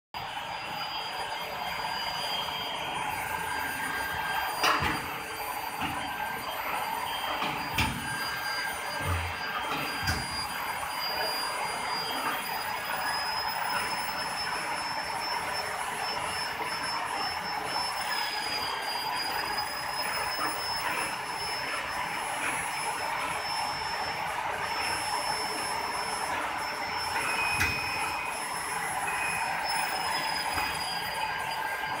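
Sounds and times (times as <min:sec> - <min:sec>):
hydraulic pump motor whirring: 0:00.7 - 0:32.0.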